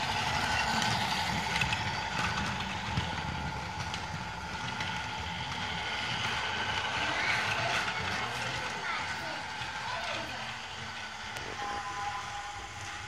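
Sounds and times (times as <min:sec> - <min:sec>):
toy train motor whine: 0:00.0 - 0:13.0
wheels rumbling on plastic track: 0:00.0 - 0:13.0.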